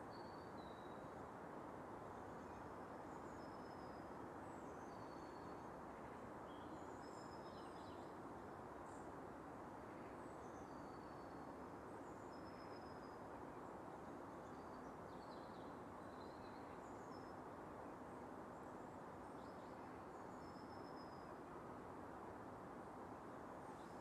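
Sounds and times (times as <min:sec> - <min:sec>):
low background hiss: 0:00.0 - 0:24.0.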